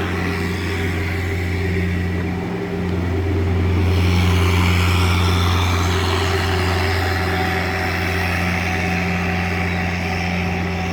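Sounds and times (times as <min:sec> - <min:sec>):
boat engine running: 0:00.0 - 0:10.9.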